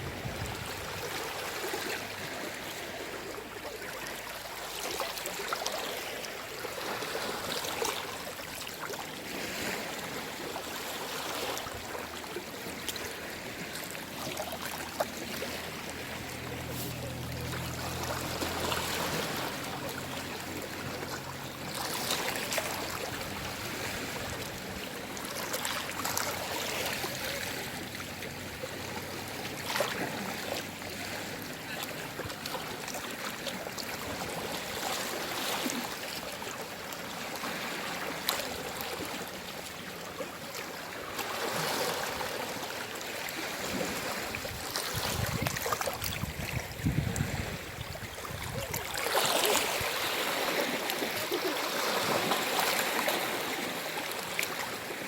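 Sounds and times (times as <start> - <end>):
small waves lapping ashore: 0.0 - 55.0
water splashes: 0.0 - 55.0.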